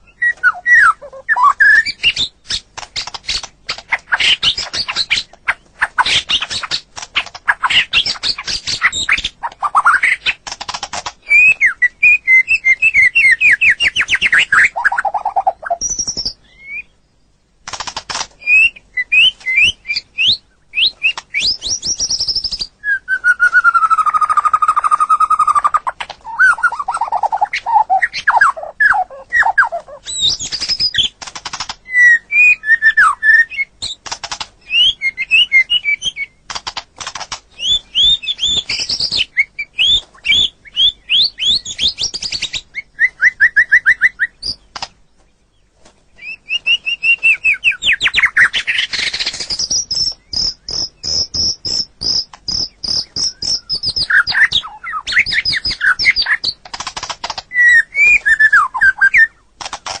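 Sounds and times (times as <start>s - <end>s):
songbird singing chirps and trills: 0.0s - 60.0s.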